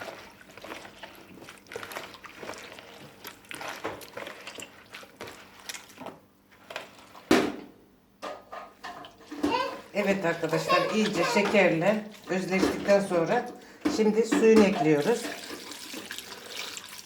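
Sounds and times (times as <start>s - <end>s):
hands squishing fruit in bowl: 0.0s - 7.6s, 9.0s - 17.0s.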